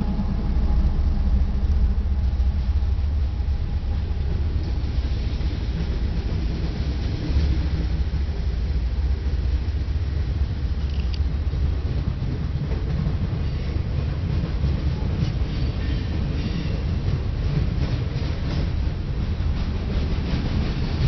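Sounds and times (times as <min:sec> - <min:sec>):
diesel locomotive engine hum: 0:00.0 - 0:21.0
freight cars rumbling on rails: 0:00.0 - 0:21.0.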